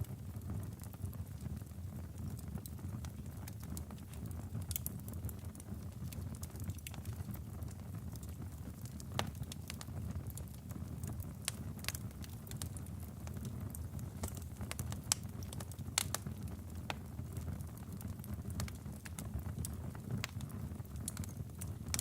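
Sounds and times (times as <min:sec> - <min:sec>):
low rumble of flame: 0:00.0 - 0:22.0
wood crackling and popping: 0:00.0 - 0:22.0.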